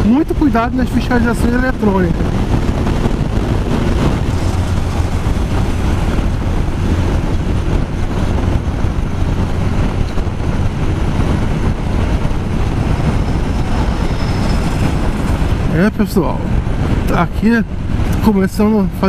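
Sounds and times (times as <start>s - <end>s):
motorcycle engine drone: 0.0s - 18.8s
road noise: 0.0s - 19.0s
wind rushing over microphone: 0.0s - 19.0s.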